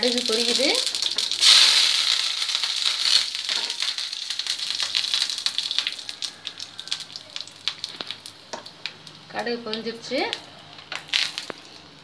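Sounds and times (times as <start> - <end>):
leaves sizzling in hot oil: 0.0 - 12.0
seeds popping in hot oil: 0.0 - 12.0.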